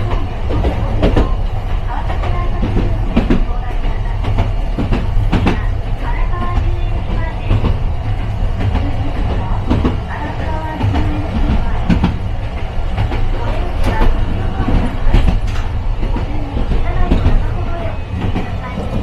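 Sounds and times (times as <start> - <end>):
streetcar rumble: 0.0 - 19.0
wheels clicking over rail joints: 0.0 - 19.0.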